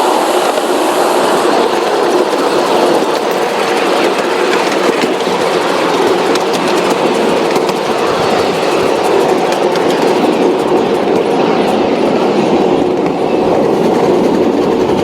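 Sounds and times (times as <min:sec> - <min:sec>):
train running rumble: 0:00.0 - 0:15.0
wheels clicking over rails: 0:00.2 - 0:15.0.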